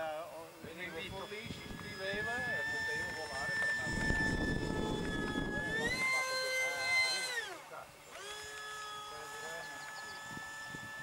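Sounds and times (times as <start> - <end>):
model jet whine: 0.0 - 11.0.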